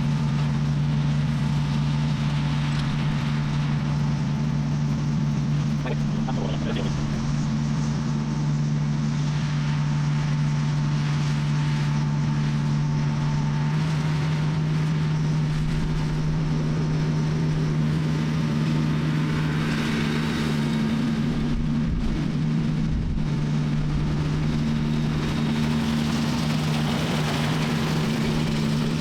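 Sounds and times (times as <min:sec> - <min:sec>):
engine humming steadily: 0:00.0 - 0:29.0.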